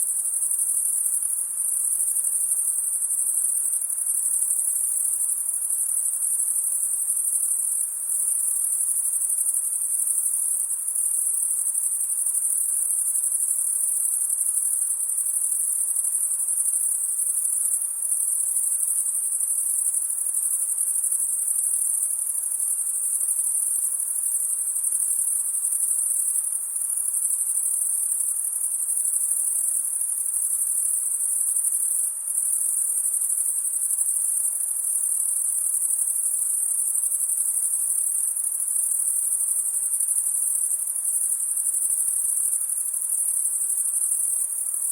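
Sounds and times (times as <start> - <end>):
crickets chirping: 0.0 - 44.9
faint background hiss: 0.0 - 44.9.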